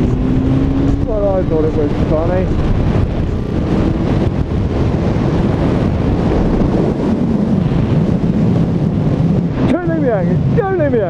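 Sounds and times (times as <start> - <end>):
motorcycle engine running: 0.0 - 10.4
wind buffeting microphone: 0.0 - 11.0.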